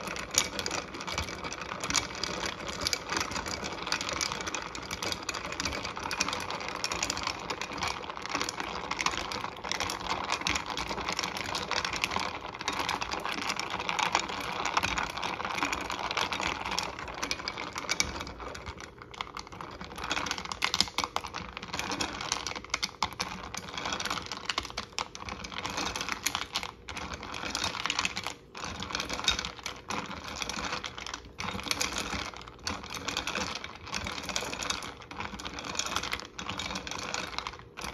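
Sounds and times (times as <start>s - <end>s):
ice clinking in a glass pitcher: 0.0s - 37.9s.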